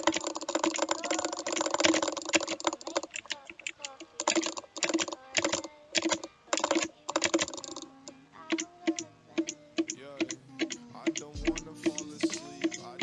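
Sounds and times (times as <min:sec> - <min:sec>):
keyboard key clicks: 0:00.0 - 0:07.9, 0:08.5 - 0:13.0.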